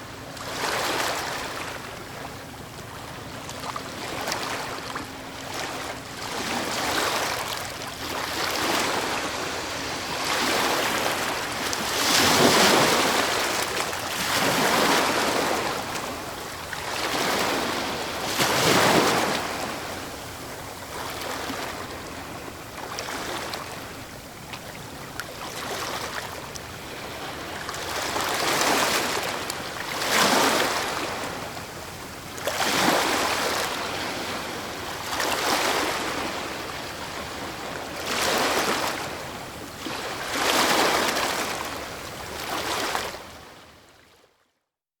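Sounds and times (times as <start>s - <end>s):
ocean waves breaking: 0.3s - 24.0s, 25.0s - 31.6s, 32.2s - 43.4s.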